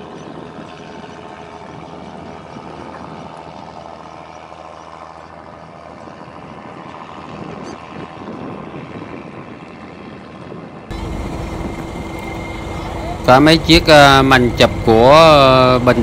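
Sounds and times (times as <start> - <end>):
boat engine humming: 0.0 - 8.2, 10.7 - 16.0.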